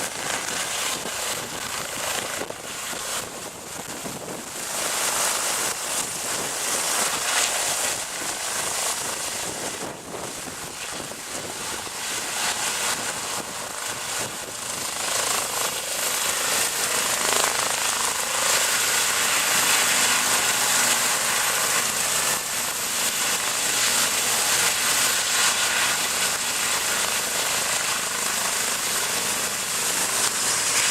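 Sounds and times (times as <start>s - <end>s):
helicopter rotor and turbine: 0.0s - 30.9s.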